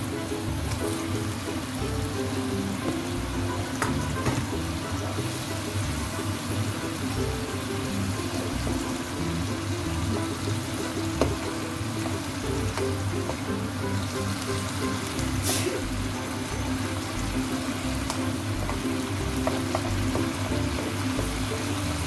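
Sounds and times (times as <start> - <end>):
background music: 0.0 - 22.0
sauce sizzling in a pan: 0.0 - 22.0.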